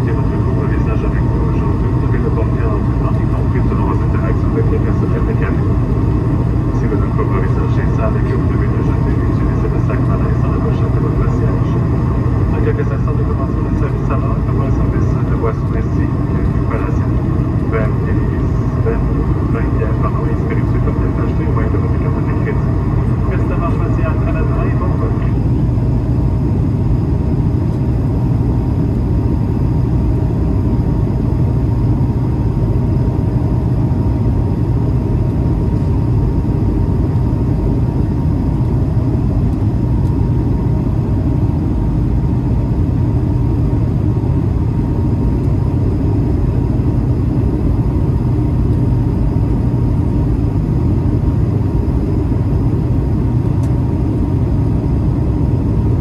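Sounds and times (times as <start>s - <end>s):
airliner cabin roar: 0.0s - 56.0s
faint steady hum: 0.0s - 56.0s.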